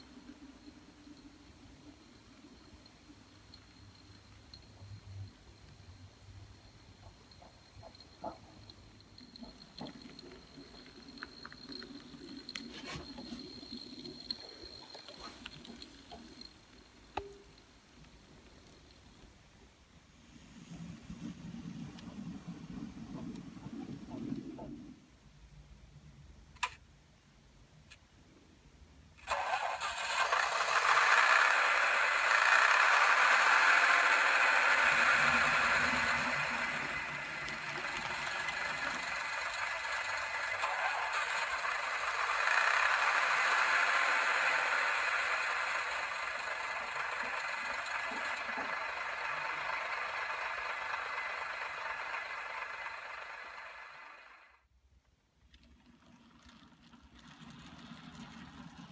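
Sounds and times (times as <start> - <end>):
model train rattling and whirring: 0.0 - 25.0, 29.2 - 54.6, 56.2 - 58.9.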